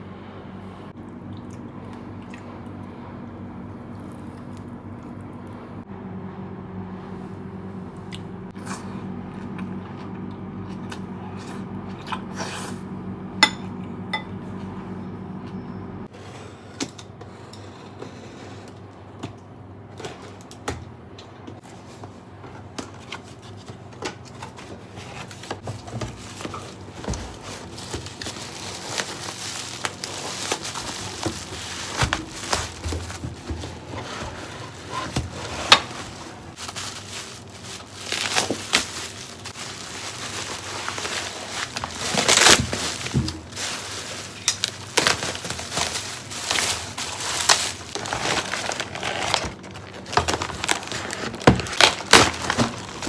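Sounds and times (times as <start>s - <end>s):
appliance hum: 0.0s - 53.0s.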